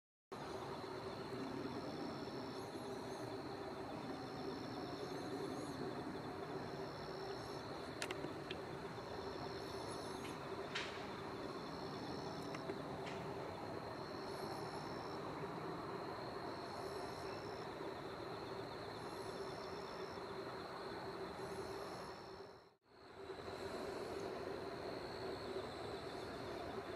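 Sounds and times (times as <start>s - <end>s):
crickets chirping: 0.4s - 26.9s
higher insect call: 0.4s - 26.9s.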